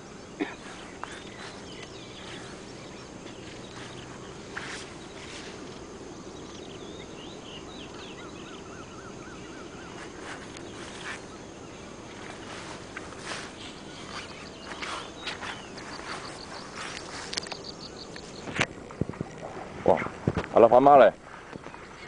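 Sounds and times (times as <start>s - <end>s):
birds chirping: 0.0s - 22.0s
outdoor background hiss: 0.0s - 22.0s.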